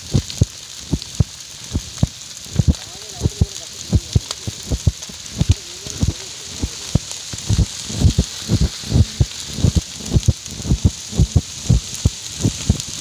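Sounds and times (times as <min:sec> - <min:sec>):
brush fire popping: 0:00.0 - 0:13.0
fire hissing: 0:00.0 - 0:13.0.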